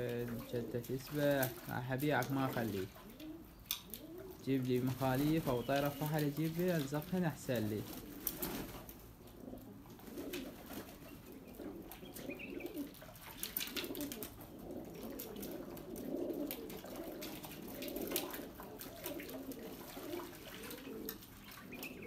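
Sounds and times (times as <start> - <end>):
birds splashing in water: 0.0 - 22.0
pigeons cooing: 0.0 - 22.0
wings fluttering: 0.0 - 22.0.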